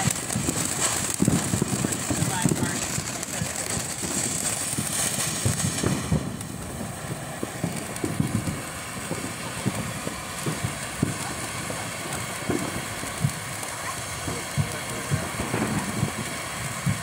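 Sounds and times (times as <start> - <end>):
fireworks fountain hissing: 0.0 - 17.0
low pops and crackles: 0.0 - 17.0.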